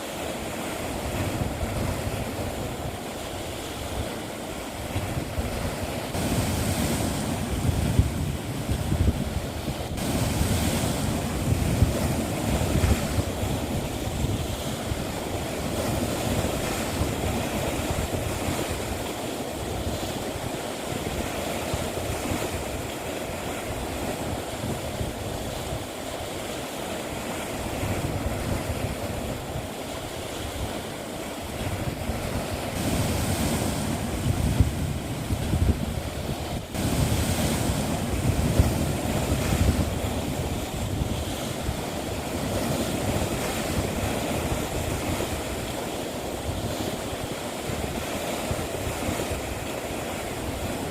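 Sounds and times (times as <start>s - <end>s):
sea waves on a rocky shore: 0.0s - 50.9s
wind buffeting the microphone: 0.4s - 50.9s.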